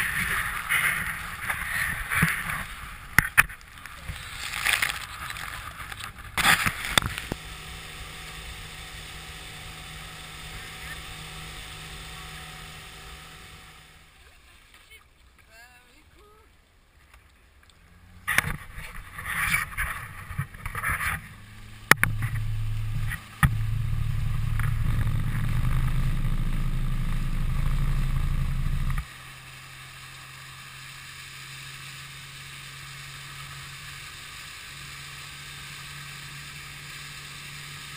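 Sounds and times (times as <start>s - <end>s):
outboard motor running: 0.0s - 14.4s, 17.8s - 37.9s
water rushing and splashing: 0.0s - 37.9s.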